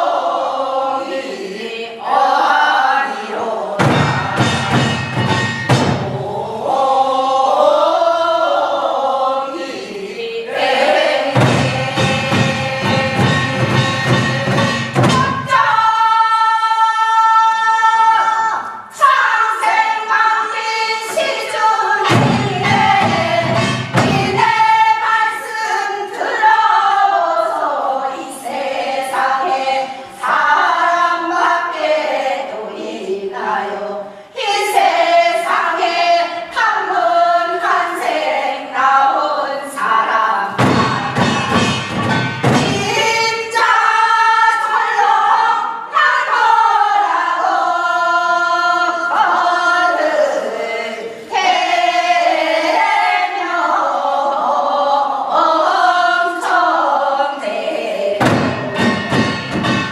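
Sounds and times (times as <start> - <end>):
group singing folk song: 0.0 - 59.9.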